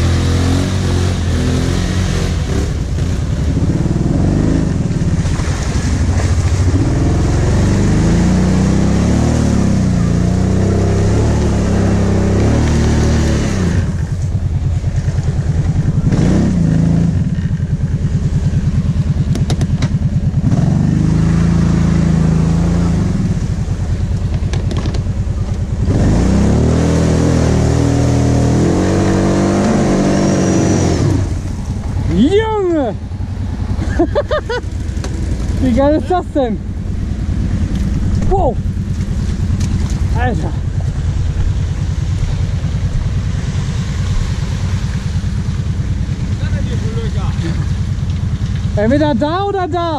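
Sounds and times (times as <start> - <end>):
quad engine revving: 0.0 - 49.9.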